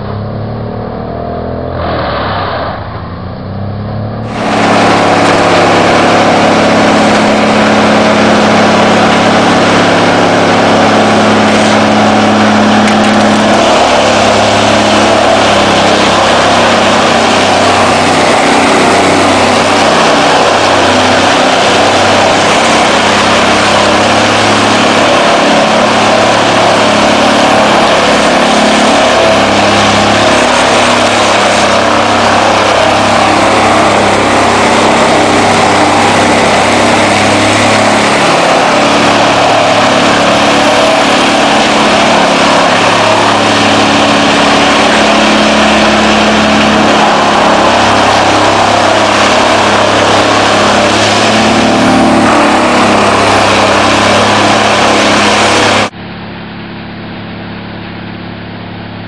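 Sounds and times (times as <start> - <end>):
wood chipper chipping trees: 0.0 - 56.0.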